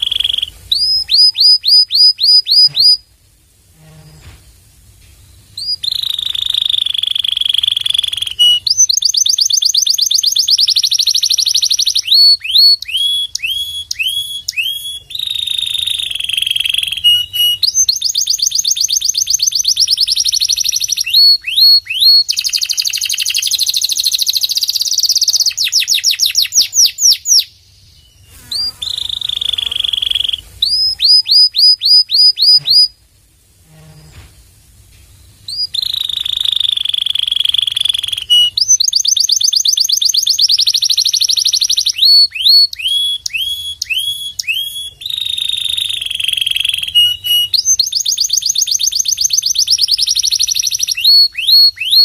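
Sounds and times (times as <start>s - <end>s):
canary singing trills: 0.0s - 3.1s, 5.4s - 33.0s, 35.4s - 52.0s.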